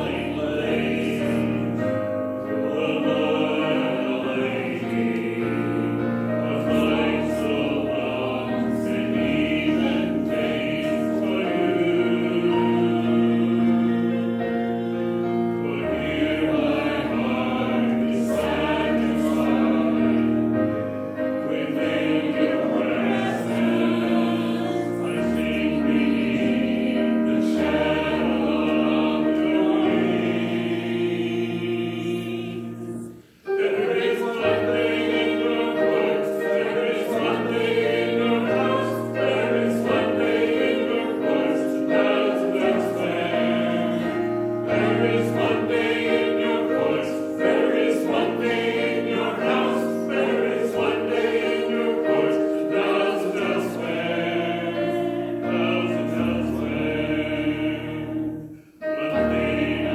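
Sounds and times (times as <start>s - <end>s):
congregation singing a hymn: 0.0s - 59.9s
instrumental accompaniment: 0.0s - 59.9s.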